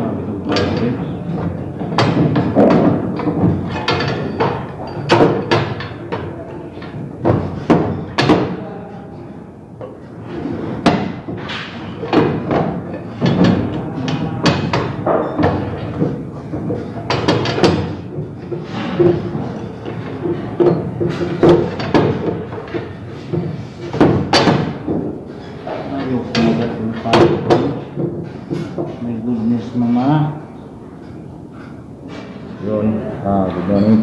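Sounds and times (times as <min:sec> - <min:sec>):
metal pipe knocking and clattering: 0:00.4 - 0:08.6, 0:09.8 - 0:29.1.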